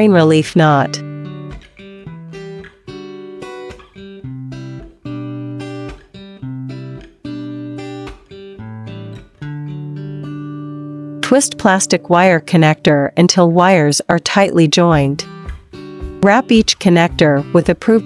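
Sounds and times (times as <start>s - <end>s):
plucked guitar notes: 0.0s - 18.0s.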